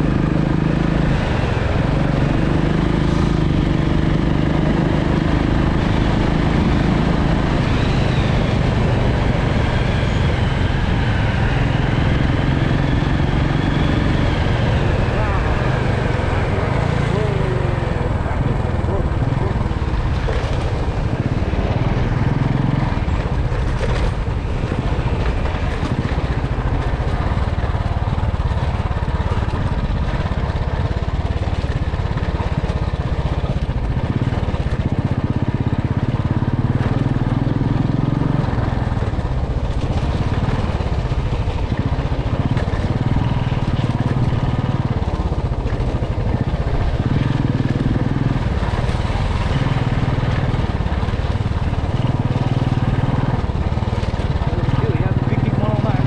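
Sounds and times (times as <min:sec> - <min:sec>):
motorcycle engine revving: 0:00.0 - 0:56.0
road noise rushing: 0:00.0 - 0:56.0.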